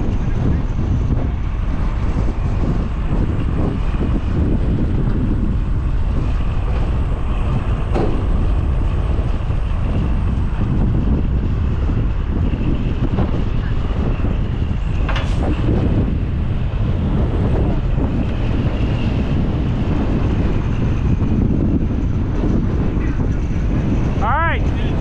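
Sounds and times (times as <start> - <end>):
heavy diesel truck engines running: 0.0 - 25.0
strong wind buffeting microphone: 0.0 - 25.0.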